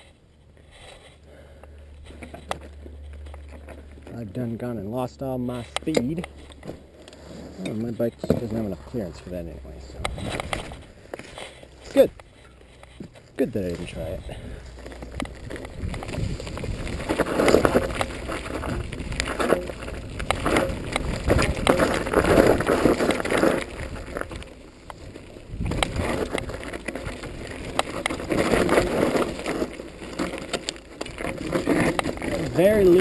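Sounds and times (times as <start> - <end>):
bike tyres crunching over dirt: 0.0 - 33.0
bike clattering over bumps: 1.4 - 33.0.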